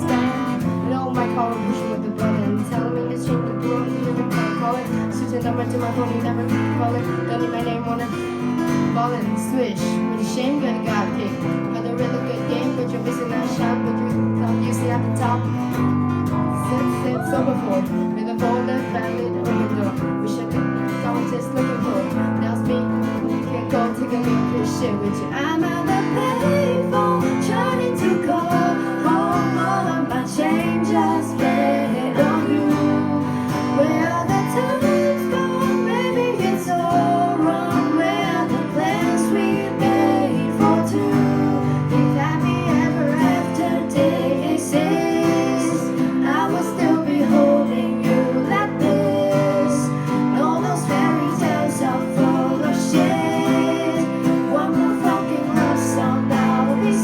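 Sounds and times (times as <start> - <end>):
acoustic guitars strumming: 0.0 - 57.0.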